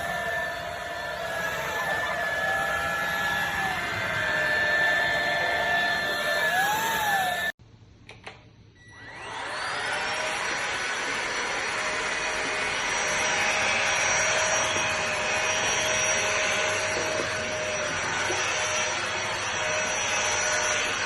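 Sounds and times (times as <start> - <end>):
handheld vacuum cleaner whining: 0.0 - 7.6, 8.9 - 21.0.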